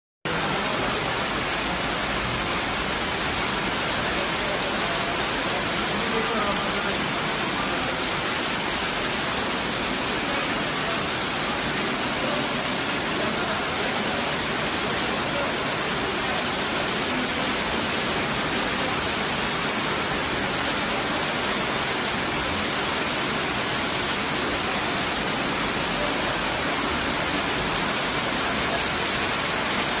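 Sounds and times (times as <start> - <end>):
rainwater falling and splashing: 0.3 - 30.0.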